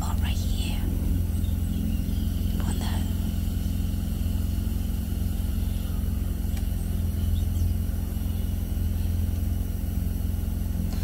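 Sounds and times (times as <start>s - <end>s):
constant hum: 0.0s - 11.0s
low rumble: 0.0s - 11.0s.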